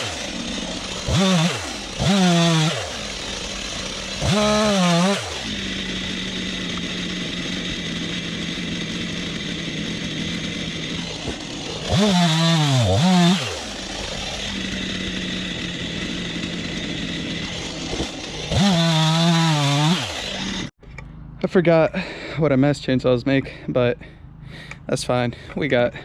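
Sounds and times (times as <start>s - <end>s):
chainsaw idling and revving: 0.0s - 21.3s.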